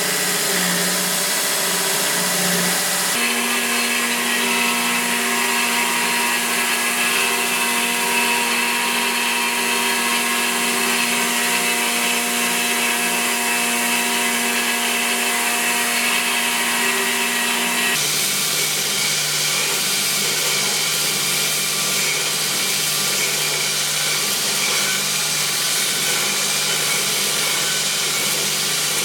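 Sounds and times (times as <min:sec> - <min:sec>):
electric power tool whining: 0:00.0 - 0:29.0.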